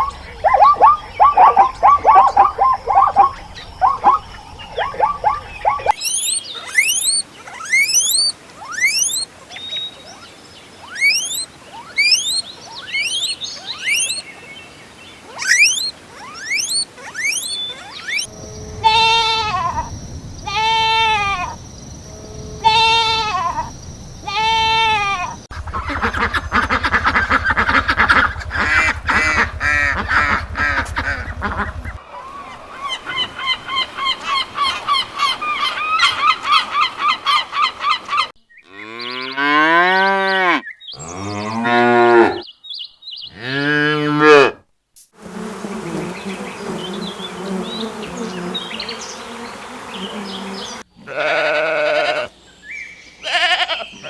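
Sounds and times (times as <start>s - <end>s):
farm animals calling: 0.0s - 14.3s, 15.2s - 42.5s, 43.2s - 44.6s, 45.4s - 52.4s, 53.2s - 54.0s.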